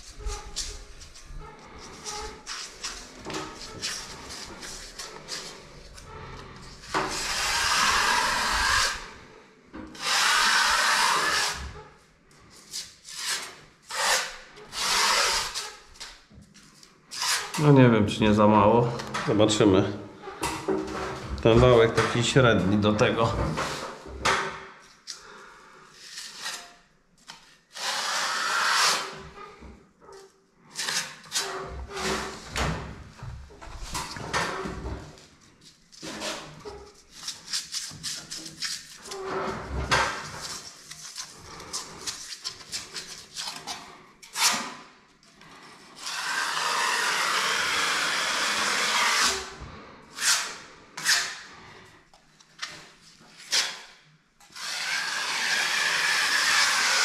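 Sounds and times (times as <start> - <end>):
plaster roller scraping wall: 0.0 - 17.8, 18.8 - 24.6, 27.8 - 44.8, 45.4 - 51.9, 54.5 - 57.0.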